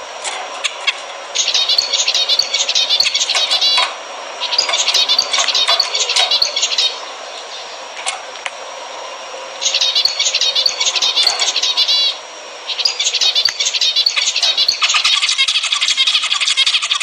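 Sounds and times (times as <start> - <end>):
finches chirping: 1.3 - 8.0, 9.0 - 17.0.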